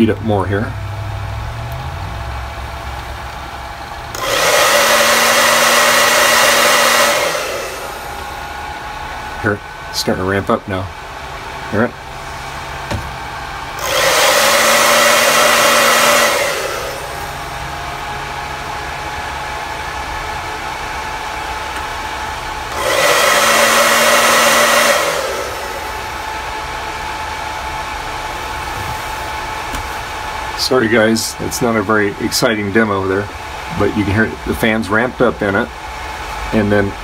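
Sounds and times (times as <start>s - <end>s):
computer cooling fan whirring: 0.0s - 37.0s
hair dryer blowing: 0.0s - 37.0s.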